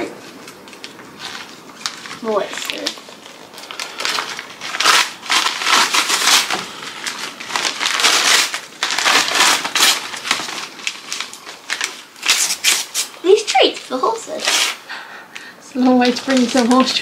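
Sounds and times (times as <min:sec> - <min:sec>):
wrapping paper rustling and crumpling: 0:00.0 - 0:15.0, 0:15.7 - 0:17.0.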